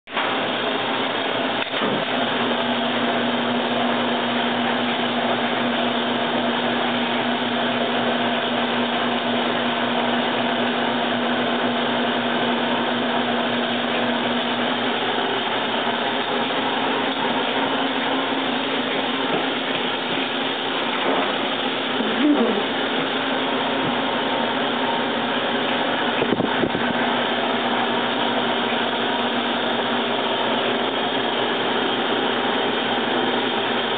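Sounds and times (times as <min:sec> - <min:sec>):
honey extractor whirring: 0:00.1 - 0:33.9.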